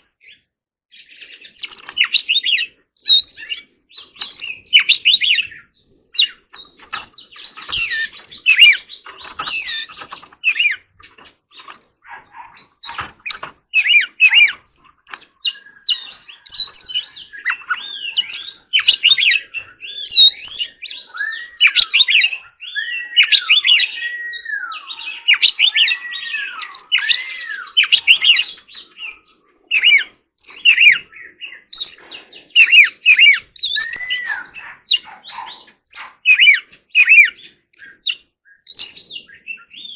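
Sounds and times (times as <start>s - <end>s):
bird singing whistled song: 0.2s - 39.9s.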